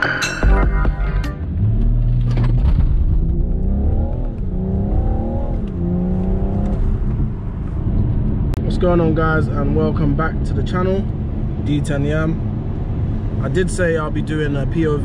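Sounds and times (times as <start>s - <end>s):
diesel engine accelerating hard: 1.3s - 15.0s.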